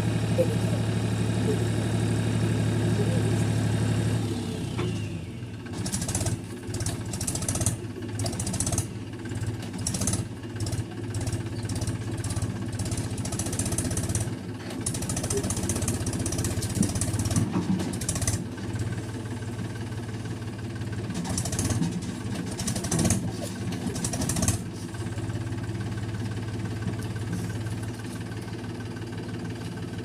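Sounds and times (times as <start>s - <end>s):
diesel tractor engine clattering: 0.0s - 30.0s.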